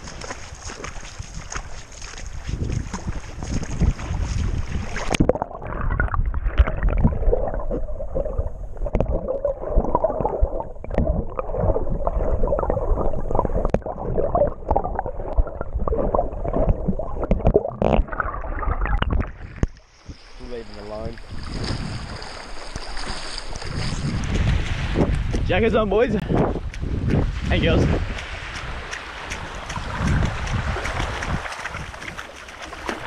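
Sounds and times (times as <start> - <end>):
underwater rush with gurgles: 0.0 - 33.0
wind and water rushing: 0.0 - 33.0.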